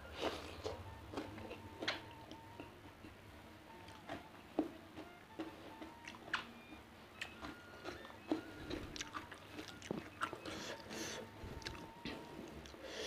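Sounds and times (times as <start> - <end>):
person chewing food: 0.0 - 3.2, 3.8 - 13.0.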